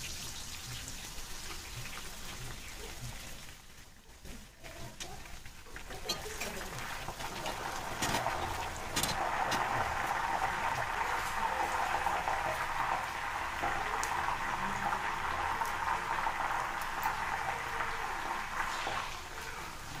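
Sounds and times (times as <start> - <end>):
food sizzling in hot oil: 0.0 - 3.8, 4.8 - 20.0.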